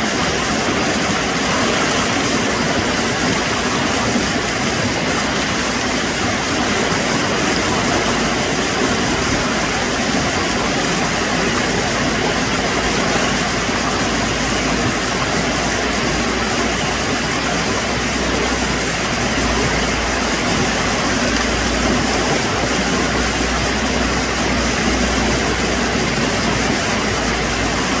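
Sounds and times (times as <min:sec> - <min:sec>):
water rushing over rocks: 0:00.0 - 0:28.0.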